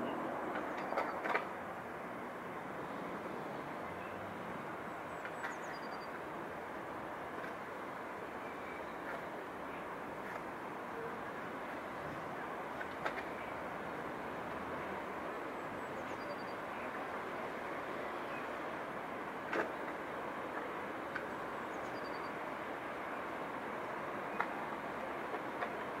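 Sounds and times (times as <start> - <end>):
distant city traffic hum: 0.0 - 26.0.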